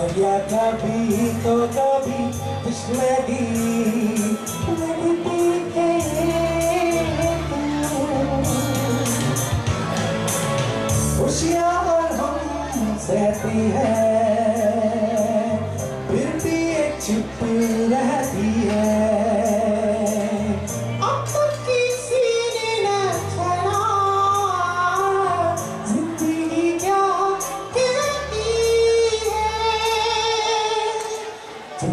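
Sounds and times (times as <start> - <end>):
backing track with beat: 0.0 - 31.9
man singing into microphone: 0.0 - 31.9.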